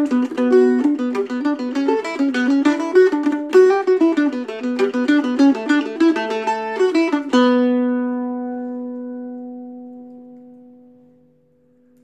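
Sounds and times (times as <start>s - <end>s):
mandolin playing a reel: 0.0s - 11.4s.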